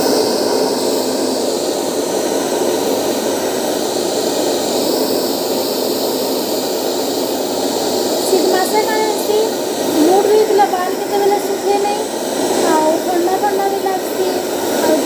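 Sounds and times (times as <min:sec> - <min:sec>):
faint motor hum: 0:00.0 - 0:15.0
hair dryer blowing air: 0:00.0 - 0:15.0.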